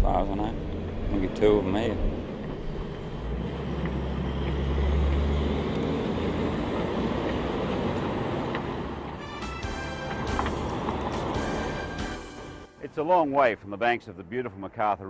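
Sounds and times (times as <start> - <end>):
truck engine rumble: 0.0 - 15.0
wheels on road: 0.0 - 15.0.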